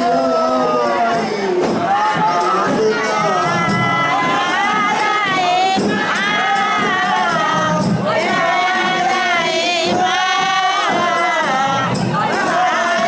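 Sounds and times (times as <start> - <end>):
crowd voices: 0.0 - 13.0
group singing: 0.0 - 13.0
jingling percussion beat: 0.0 - 13.0.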